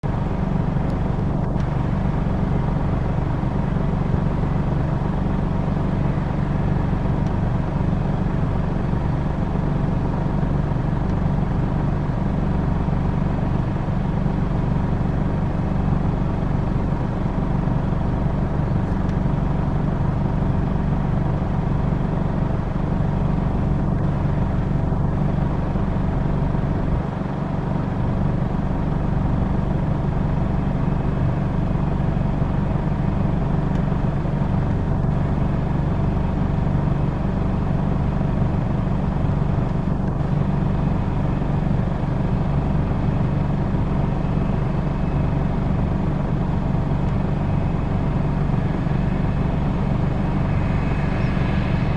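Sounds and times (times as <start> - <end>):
combine harvester engine drone: 0.0 - 51.9.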